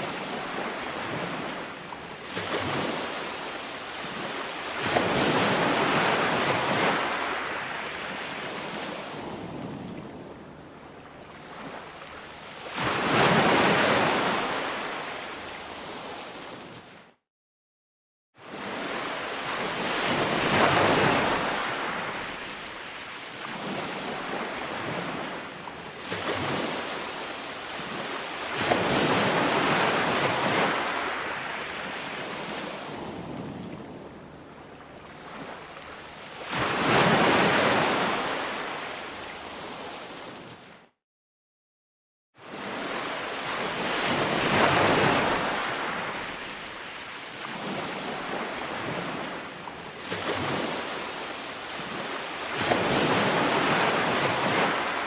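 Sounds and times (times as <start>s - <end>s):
ocean waves breaking on shore: 0.0s - 17.2s, 18.4s - 41.0s, 42.4s - 55.0s.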